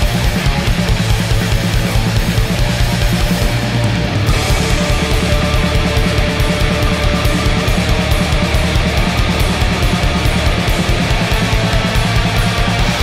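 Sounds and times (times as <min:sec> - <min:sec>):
distorted guitar and bass: 0:00.0 - 0:13.0
fast drumming: 0:00.0 - 0:13.0.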